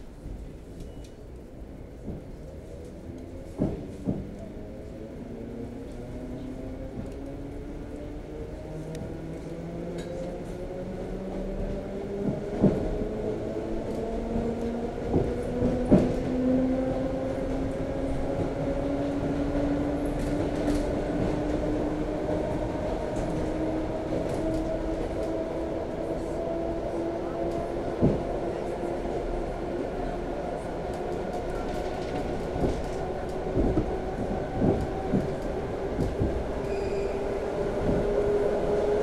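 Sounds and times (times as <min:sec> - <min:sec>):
train running noise: 0:00.0 - 0:39.0.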